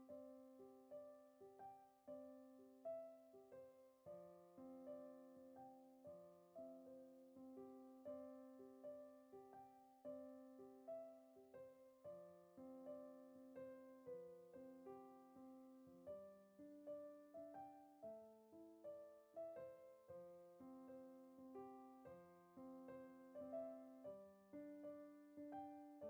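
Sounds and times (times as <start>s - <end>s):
quiet piano music: 0.0s - 26.0s.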